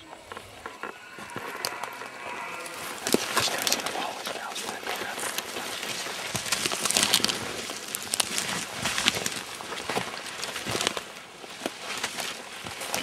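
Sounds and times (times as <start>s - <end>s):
crackling and rustling: 0.0s - 13.0s.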